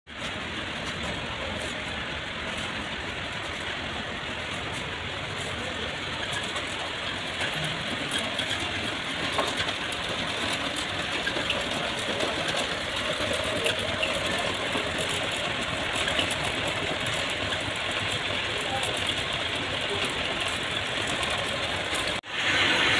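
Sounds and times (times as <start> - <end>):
machine whirring and rattling: 0.1 - 22.9.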